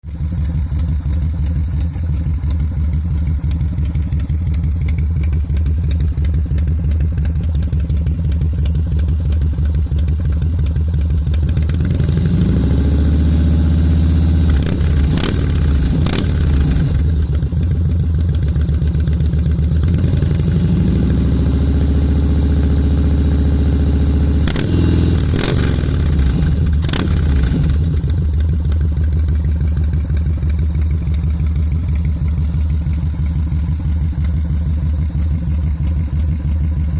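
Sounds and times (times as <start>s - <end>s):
motorcycle engine idling: 0.0s - 36.9s
motorcycle engine revving: 0.0s - 36.9s.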